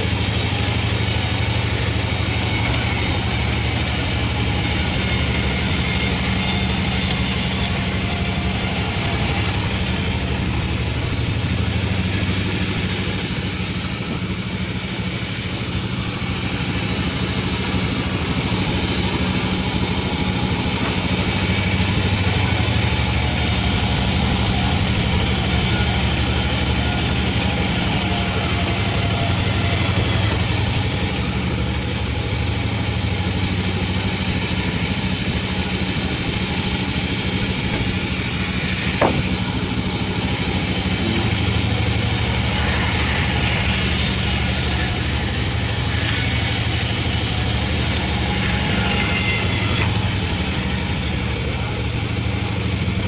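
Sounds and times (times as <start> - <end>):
saw blade hissing through log: 0.0 - 50.3
band sawmill droning: 0.0 - 53.0.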